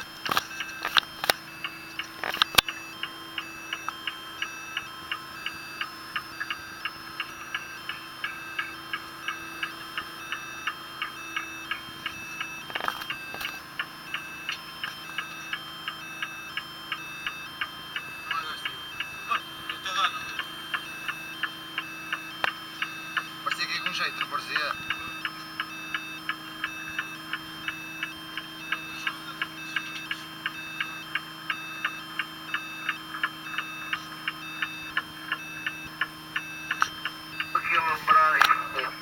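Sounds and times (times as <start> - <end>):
sonar electronic beeps: 0.0 - 39.0
steady low hum: 0.0 - 39.0.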